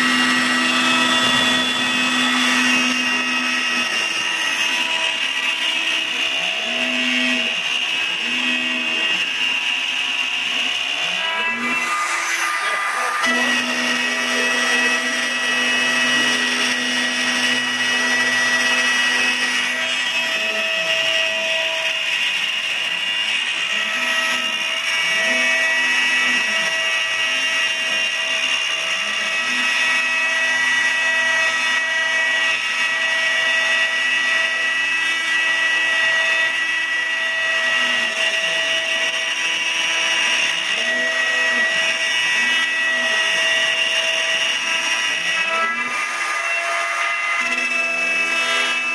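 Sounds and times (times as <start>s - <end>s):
router motor whine: 0.0s - 48.9s.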